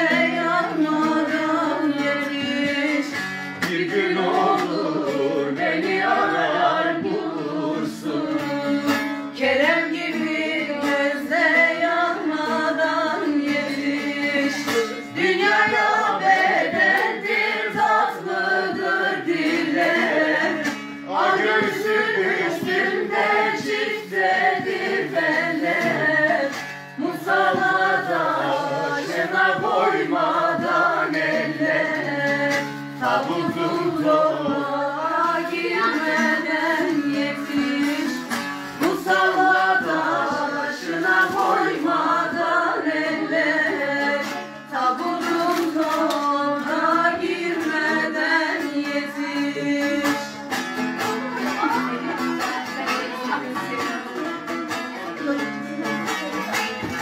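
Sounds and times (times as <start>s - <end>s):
long-necked lute plucked melody: 0.0s - 57.0s.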